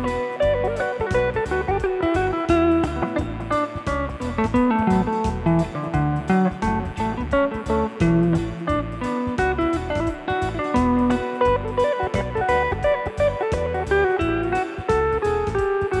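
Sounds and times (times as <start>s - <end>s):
bass line: 0.0s - 16.0s
drum beat: 0.0s - 16.0s
guitar: 0.0s - 16.0s.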